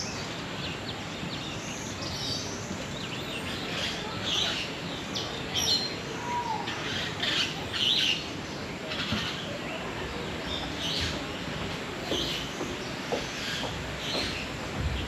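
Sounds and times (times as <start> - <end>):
background hubbub: 0.0 - 15.0
birds chirping: 0.0 - 15.0.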